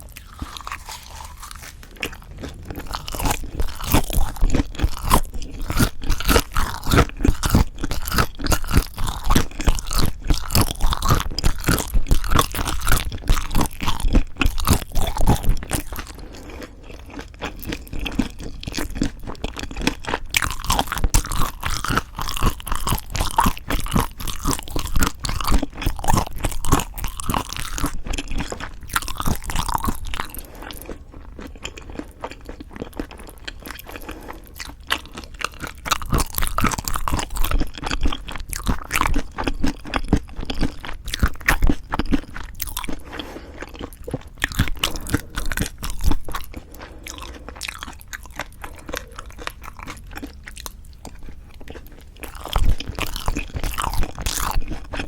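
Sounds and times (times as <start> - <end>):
person chewing crunchy food: 0.0 - 55.0
wet mouth sounds: 0.0 - 55.0.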